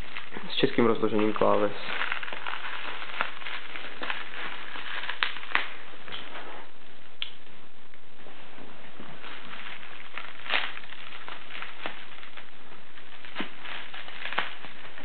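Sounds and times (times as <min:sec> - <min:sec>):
plastic wrapping crinkling: 0:00.0 - 0:15.0
steady hiss: 0:00.0 - 0:15.0.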